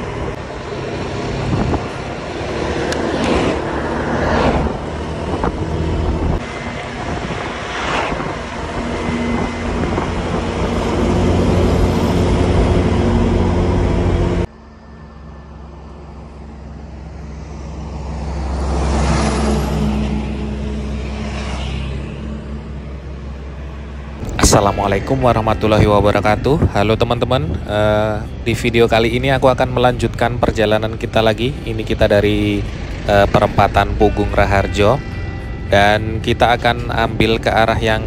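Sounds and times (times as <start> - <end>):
tyre and road noise: 0.0 - 38.0
vehicle engine hum: 0.0 - 38.0.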